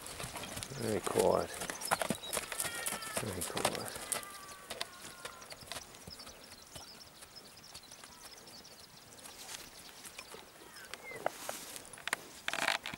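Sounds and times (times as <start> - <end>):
hoofbeats on grass: 0.0 - 12.9.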